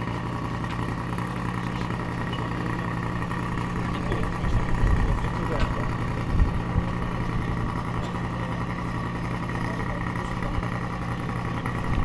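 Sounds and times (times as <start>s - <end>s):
fire pump engine running: 0.0s - 12.0s.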